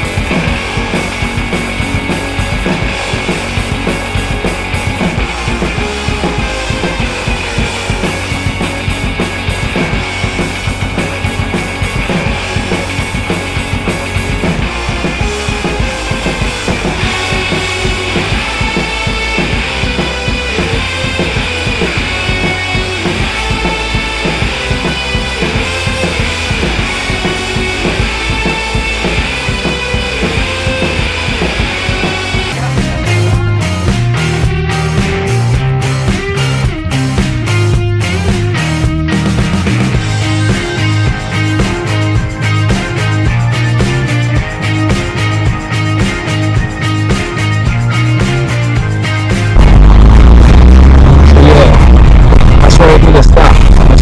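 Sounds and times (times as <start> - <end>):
rock music with drum beat: 0.0 - 54.0.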